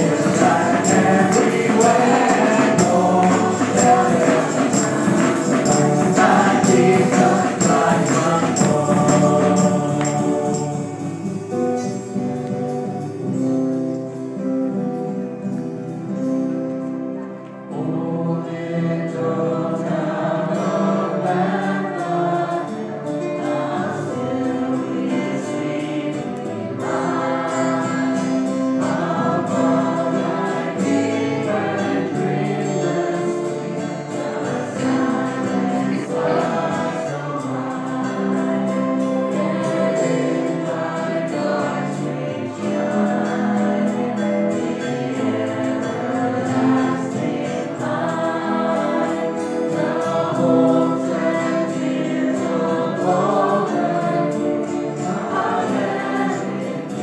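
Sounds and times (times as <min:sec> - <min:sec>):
acoustic guitar: 0:00.0 - 0:57.0
choir singing worship song: 0:00.0 - 0:57.0.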